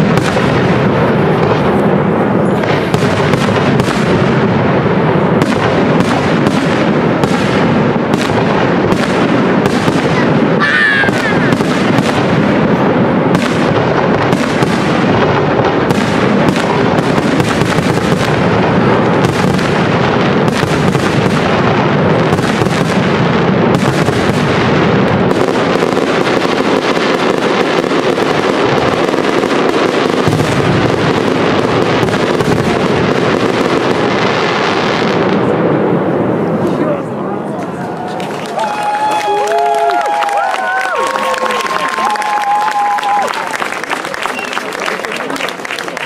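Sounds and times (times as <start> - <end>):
fireworks bursting and crackling: 0.0 - 46.0.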